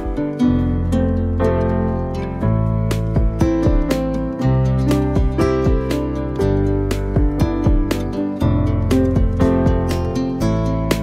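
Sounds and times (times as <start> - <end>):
steady beat: 0.0 - 0.5, 2.4 - 11.0
plucked guitar-like strings: 0.0 - 11.0.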